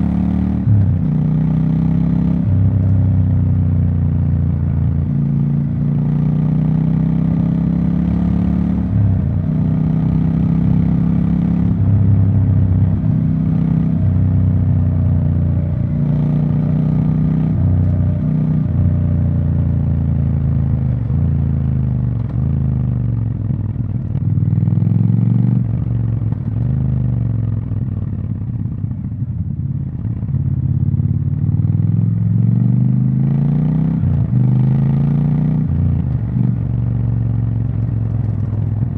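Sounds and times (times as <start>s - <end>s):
motorcycle engine revving: 0.0s - 28.8s, 30.3s - 38.9s.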